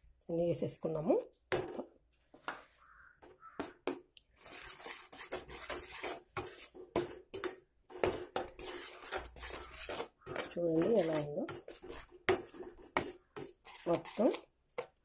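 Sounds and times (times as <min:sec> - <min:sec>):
spatula scraping and knocking pan: 0:01.5 - 0:15.0.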